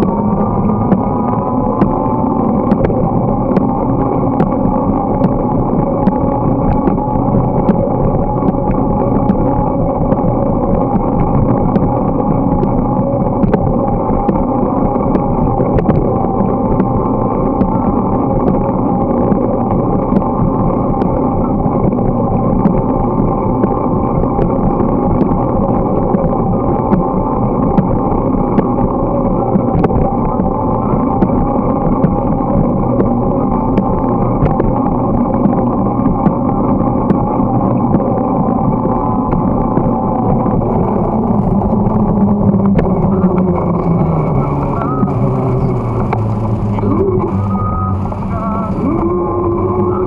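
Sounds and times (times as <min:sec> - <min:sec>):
bicycle tyres rolling on pavement: 0:00.0 - 0:49.8
wind on microphone: 0:00.0 - 0:50.0.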